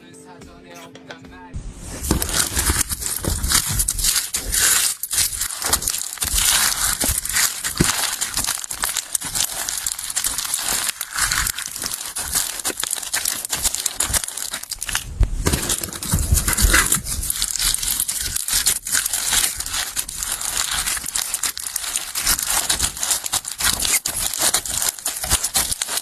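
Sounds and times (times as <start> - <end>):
slime crackling and popping: 1.8 - 26.0.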